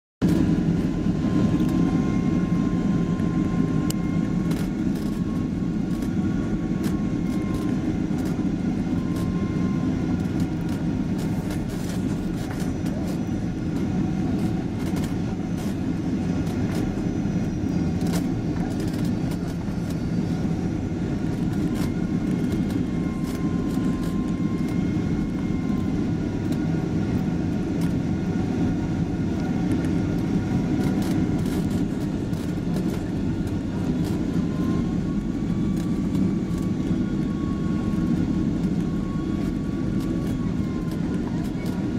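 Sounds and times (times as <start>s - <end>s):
airliner cabin engine hum: 0.2s - 41.9s.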